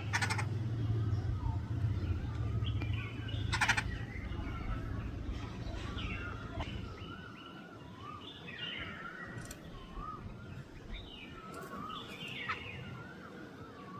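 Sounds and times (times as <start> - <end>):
babblers calling: 0.0 - 7.4, 8.1 - 13.1.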